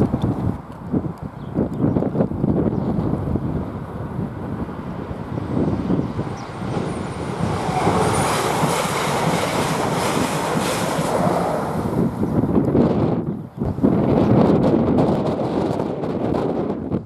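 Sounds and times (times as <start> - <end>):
wind buffeting microphone: 0.0 - 17.0
train passing at speed: 3.0 - 16.8.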